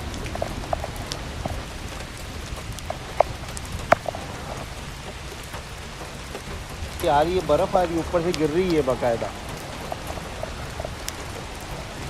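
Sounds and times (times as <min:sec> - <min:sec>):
hail pellets pattering: 0:00.0 - 0:12.0.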